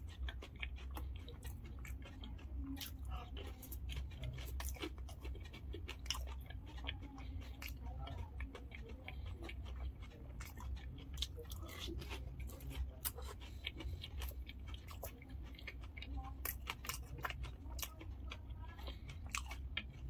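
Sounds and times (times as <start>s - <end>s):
soft crunches of fried shells: 0.0s - 20.0s
steady low hum: 0.0s - 20.0s.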